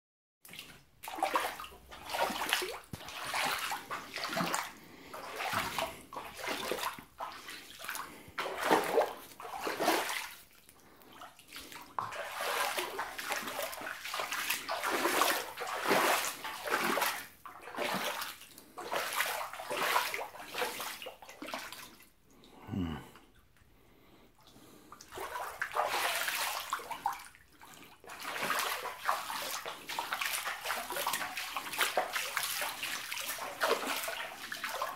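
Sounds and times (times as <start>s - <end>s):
water sloshing as someone wades: 0.4s - 23.0s, 24.4s - 34.9s.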